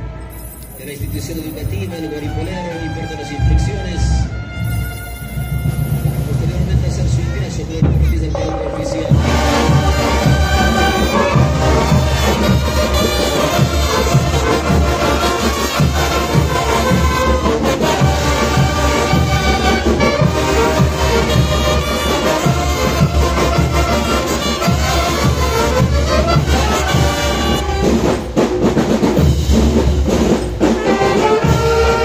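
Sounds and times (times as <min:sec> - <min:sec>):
saxophones and brass: 0:01.8 - 0:06.4, 0:08.4 - 0:28.4, 0:30.6 - 0:32.0
drum beat: 0:05.4 - 0:32.0.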